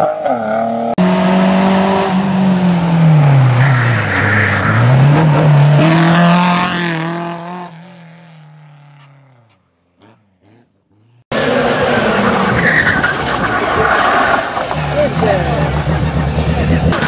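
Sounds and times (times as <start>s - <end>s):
rally car engine driven hard: 0.0s - 17.0s.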